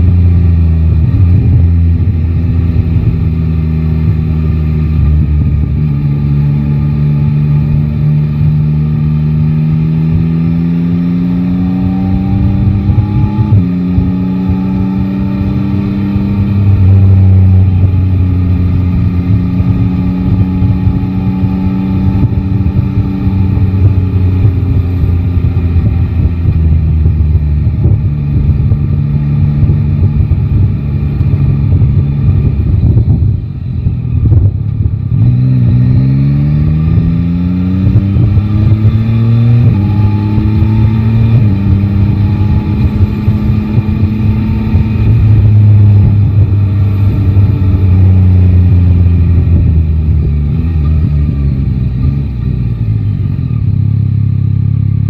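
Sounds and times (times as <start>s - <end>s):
low wind rumble on microphone: 0.0s - 55.0s
motorcycle engine revving: 0.0s - 55.0s.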